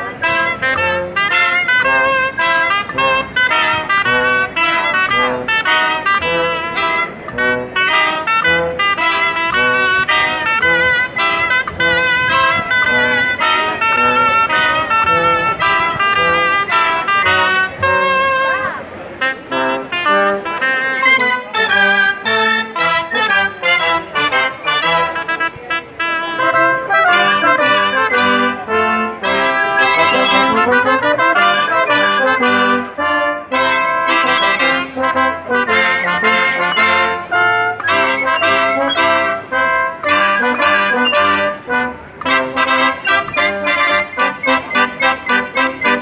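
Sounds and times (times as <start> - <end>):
brass band playing: 0.0 - 46.0.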